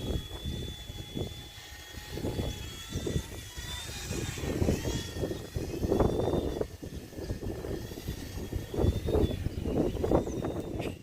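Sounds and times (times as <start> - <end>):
toy helicopter motor whine: 0.0 - 11.0
wind buffeting microphone: 0.0 - 11.0.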